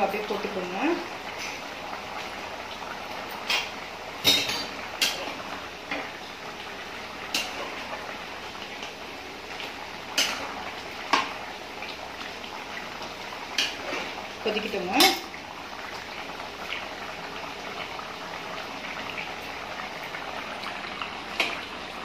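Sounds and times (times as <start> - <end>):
gravy bubbling: 0.0 - 22.0.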